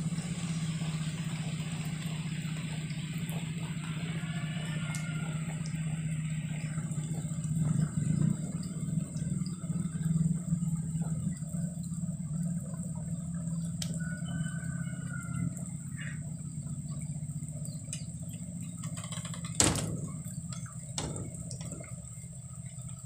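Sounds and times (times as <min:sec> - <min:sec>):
motorcycle engine idling: 0:00.0 - 0:14.0, 0:15.0 - 0:23.0.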